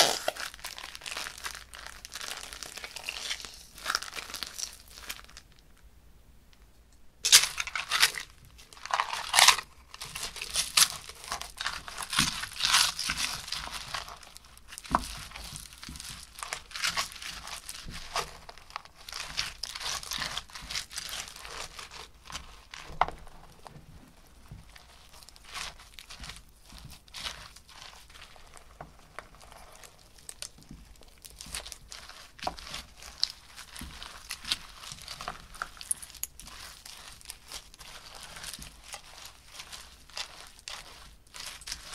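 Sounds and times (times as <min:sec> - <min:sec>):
foam slime crackling: 0:00.0 - 0:05.7, 0:07.2 - 0:41.9.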